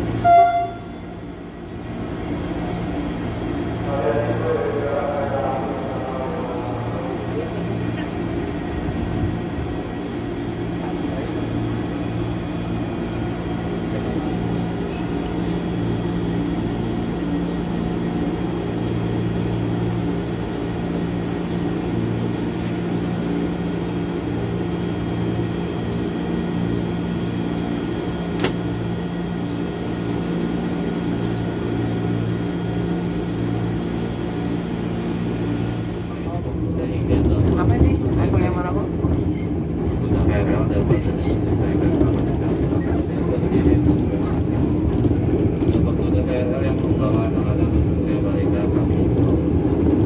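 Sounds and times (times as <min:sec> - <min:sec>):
electric train carriage hum: 0:00.0 - 0:50.0.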